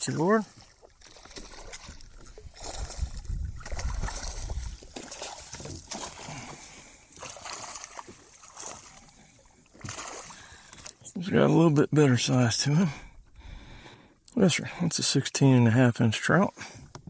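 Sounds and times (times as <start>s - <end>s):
water splashing against kayak: 0.0s - 13.9s.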